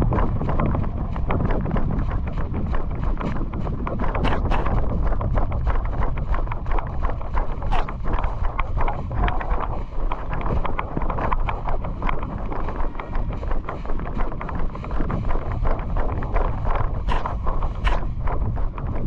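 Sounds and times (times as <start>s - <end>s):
wind buffeting microphone: 0.0s - 19.0s
quick footsteps: 1.5s - 19.0s.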